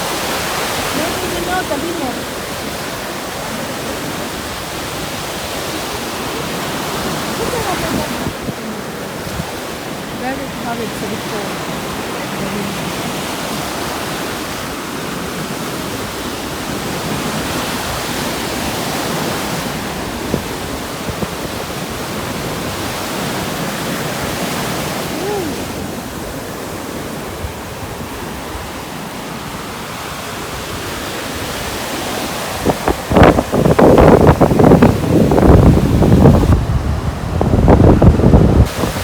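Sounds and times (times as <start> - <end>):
surf: 0.0 - 39.0
wind: 0.0 - 39.0
wind gusts buffeting microphone: 0.0 - 39.0.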